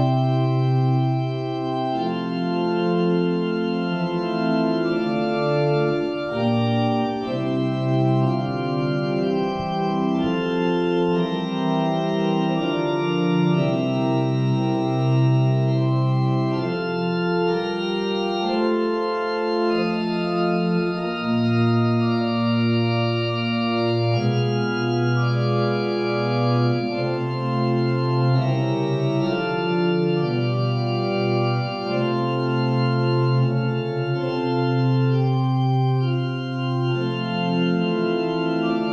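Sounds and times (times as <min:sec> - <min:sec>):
church organ playing chords: 0:00.0 - 0:38.9.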